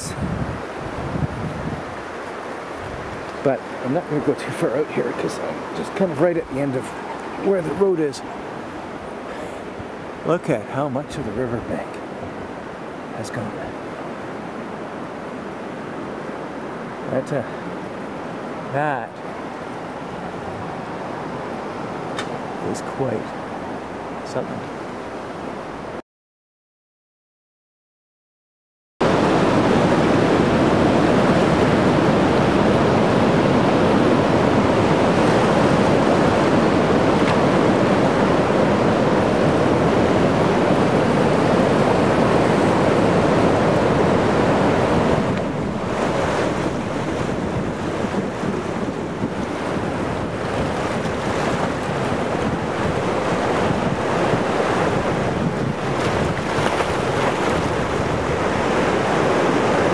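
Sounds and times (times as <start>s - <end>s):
river rushing over rapids: 0.0s - 11.3s, 11.9s - 25.9s, 29.0s - 59.9s.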